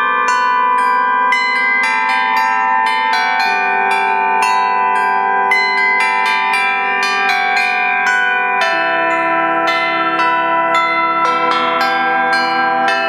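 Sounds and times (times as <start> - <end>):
church bells playing a melody: 0.0 - 13.0
low bell ringing: 0.0 - 13.0.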